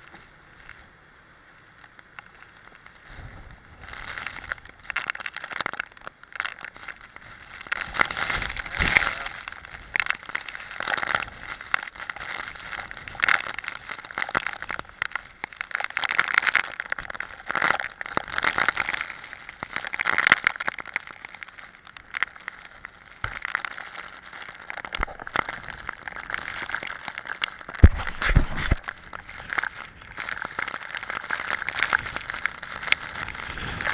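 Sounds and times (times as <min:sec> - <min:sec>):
rain striking camera lens: 0:01.5 - 0:33.9
hurricane wind: 0:02.2 - 0:05.5, 0:06.7 - 0:20.0, 0:21.5 - 0:33.9.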